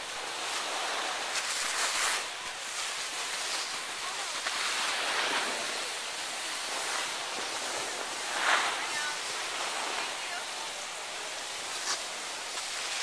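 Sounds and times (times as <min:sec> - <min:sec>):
skis sliding over snow: 0:00.0 - 0:13.0.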